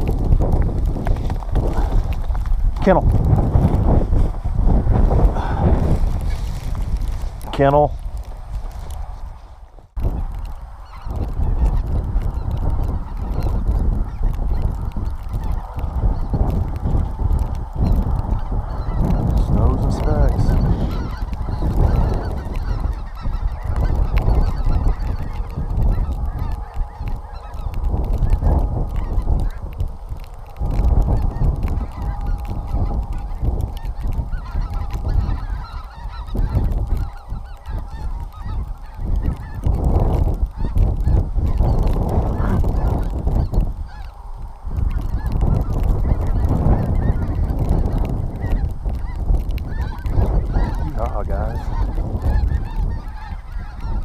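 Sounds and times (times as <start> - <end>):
geese honking and yelping: 0.0 - 54.0
steady low rumble: 0.0 - 54.0.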